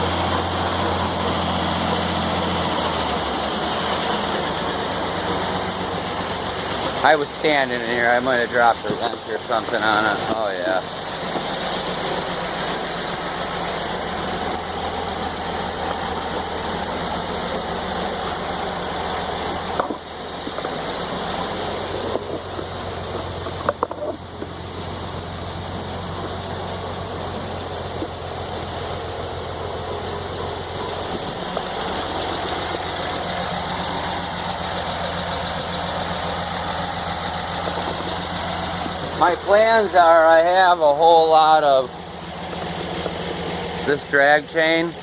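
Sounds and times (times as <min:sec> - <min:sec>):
sawmill engine running: 0:00.0 - 0:45.0.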